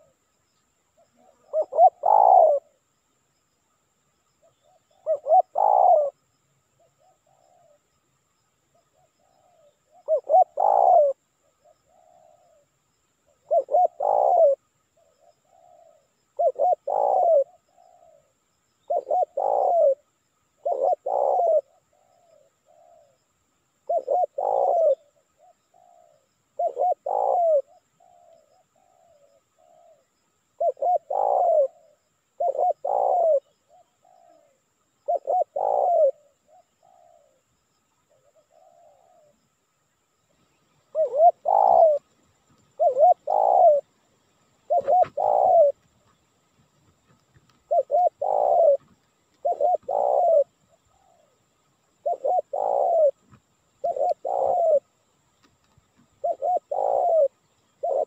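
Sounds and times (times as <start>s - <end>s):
dove cooing: 0.0s - 0.2s, 1.0s - 2.9s, 4.4s - 6.2s, 6.8s - 7.9s, 8.7s - 23.2s, 23.8s - 39.4s, 40.6s - 46.2s, 46.8s - 55.1s, 55.7s - 58.0s.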